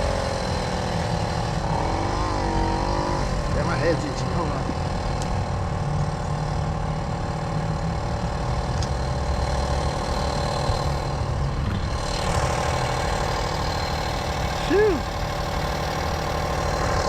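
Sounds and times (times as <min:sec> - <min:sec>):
moped engine idling: 0:00.0 - 0:17.0.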